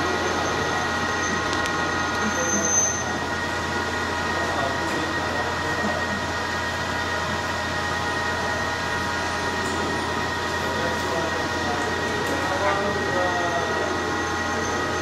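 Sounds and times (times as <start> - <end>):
machinery hum and whine: 0.0 - 15.0.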